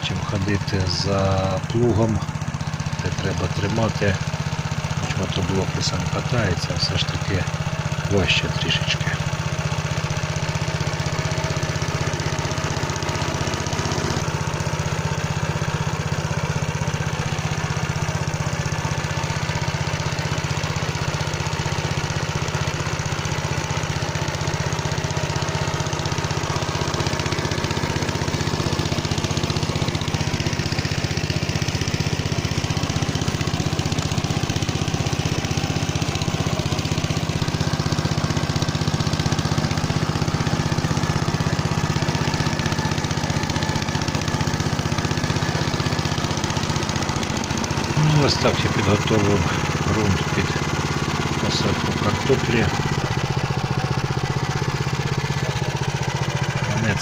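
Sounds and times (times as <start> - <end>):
rotary tiller in soil: 0.0 - 57.0
tractor engine running: 0.0 - 57.0.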